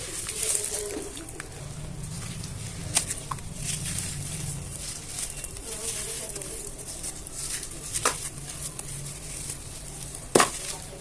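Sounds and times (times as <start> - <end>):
gritty crunching of crumbled cement: 0.0 - 11.0.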